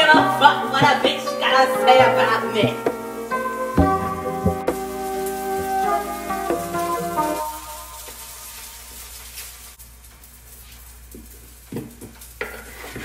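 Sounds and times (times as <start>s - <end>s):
faint steady hiss and hum: 0.0s - 13.0s.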